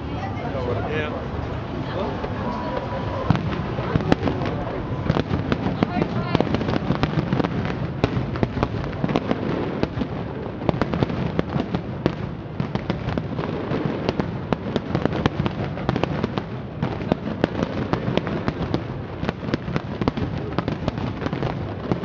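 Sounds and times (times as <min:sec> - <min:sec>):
fireworks bursts and bangs: 0:00.6 - 0:22.0.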